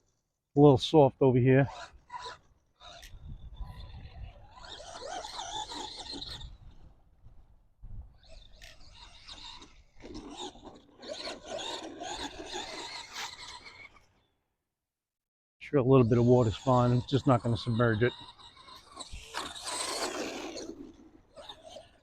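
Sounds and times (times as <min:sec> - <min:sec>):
rc truck electric motor whining: 0:01.7 - 0:07.4, 0:08.1 - 0:14.3, 0:16.1 - 0:22.0.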